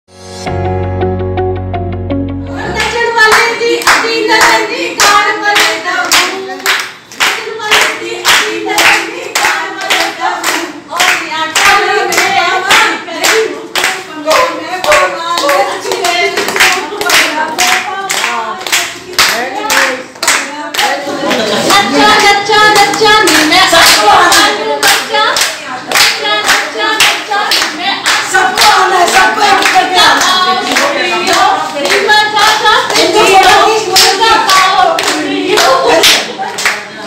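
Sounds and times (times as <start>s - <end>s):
women singing together: 2.5s - 37.0s
hands clapping in a steady beat: 2.8s - 36.9s.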